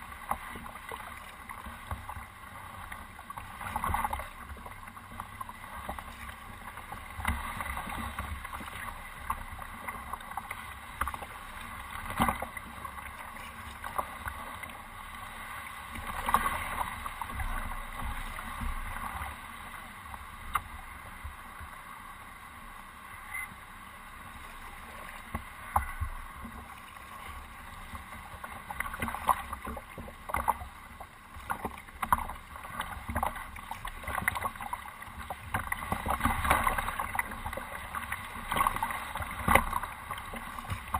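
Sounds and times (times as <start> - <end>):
water splashing along hull: 0.0 - 40.9.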